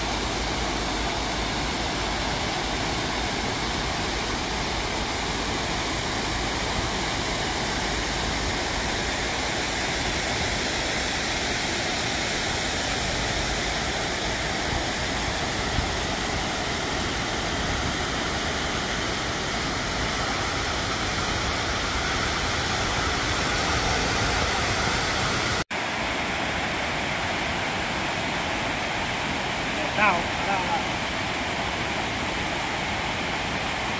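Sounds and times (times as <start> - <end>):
water rushing over a dam: 0.0 - 33.9.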